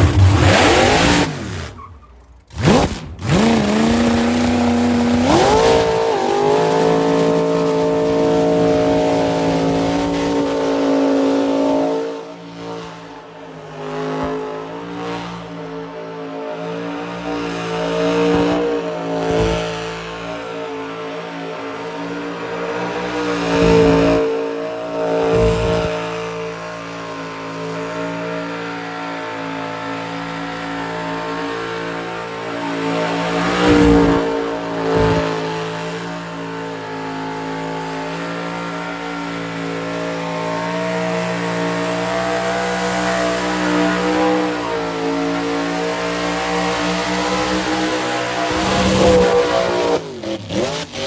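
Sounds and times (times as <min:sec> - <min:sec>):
truck engine at high revs: 0:00.0 - 0:51.0.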